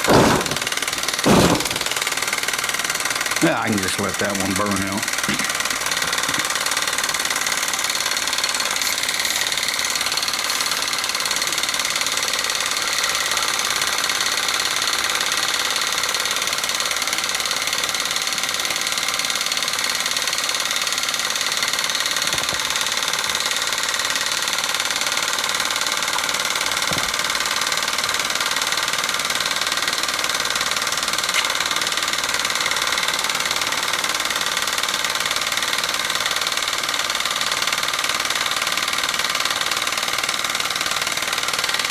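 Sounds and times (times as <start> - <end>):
steam engines running with hiss: 0.0 - 41.9.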